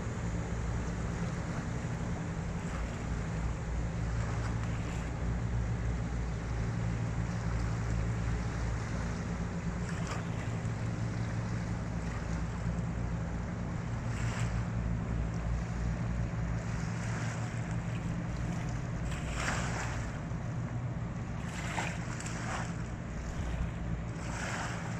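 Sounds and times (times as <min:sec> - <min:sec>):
boat engine drone: 0:00.0 - 0:24.9
wind and water noise: 0:00.0 - 0:24.9.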